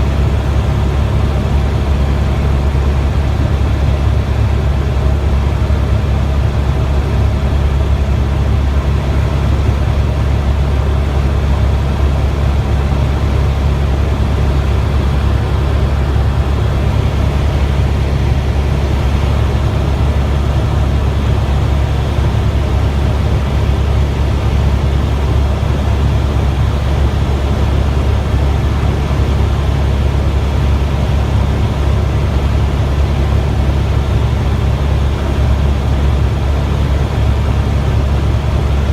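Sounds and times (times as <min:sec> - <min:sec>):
helicopter drone inside cabin: 0:00.0 - 0:38.9.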